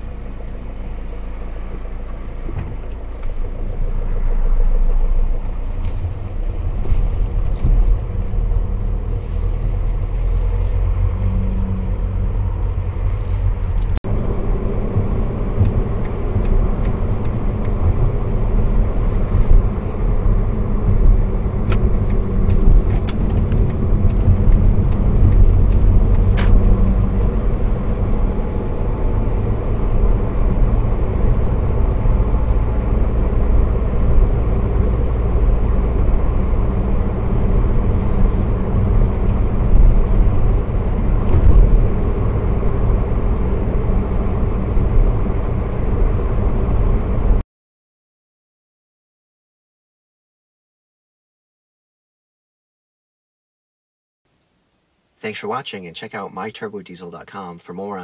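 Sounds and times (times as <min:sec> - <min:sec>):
car engine and road rumble: 0:00.0 - 0:47.4, 0:54.3 - 0:58.0.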